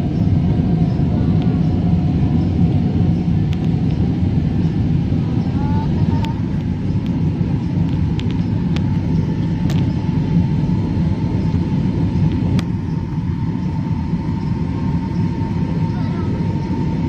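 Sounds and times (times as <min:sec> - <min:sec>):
faint high whine: 0:00.0 - 0:17.0
jet engine and airflow rumble: 0:00.0 - 0:17.0.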